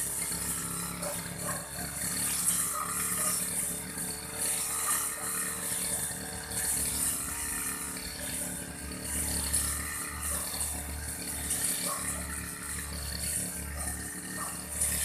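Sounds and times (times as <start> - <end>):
brush cutter engine running: 0.0 - 15.0
cutting head whirring through grass: 0.0 - 15.0.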